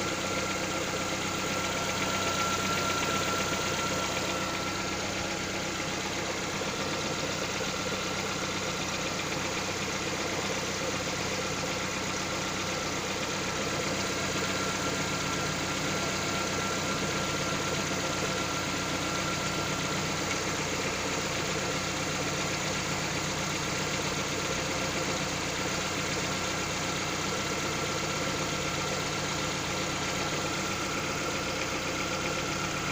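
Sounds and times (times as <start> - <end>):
car engine idling with knock: 0.0 - 32.9.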